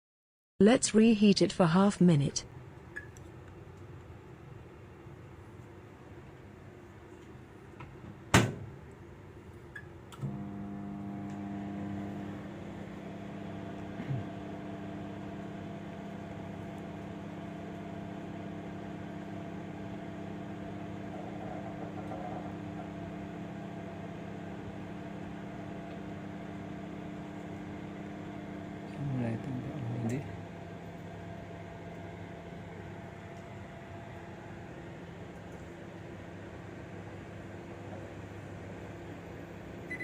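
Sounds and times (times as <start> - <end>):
microwave oven humming: 0.6 - 40.0.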